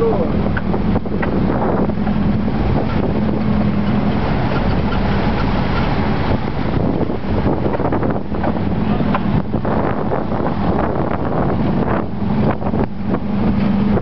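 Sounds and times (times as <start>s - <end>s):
buggy engine running: 0.0s - 14.0s
wind buffeting microphone: 0.0s - 14.0s.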